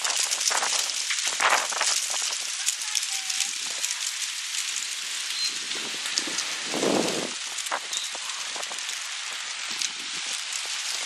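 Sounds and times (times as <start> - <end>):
wind blowing with crackles: 0.0 - 11.0.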